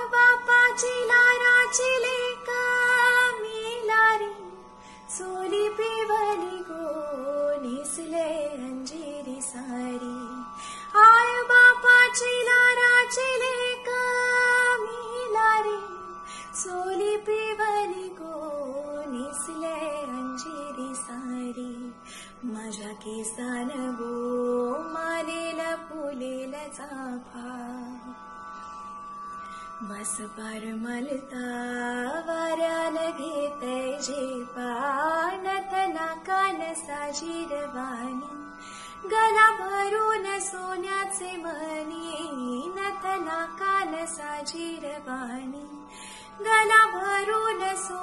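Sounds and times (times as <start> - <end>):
woman singing folk song: 0.0 - 28.2, 29.5 - 48.0.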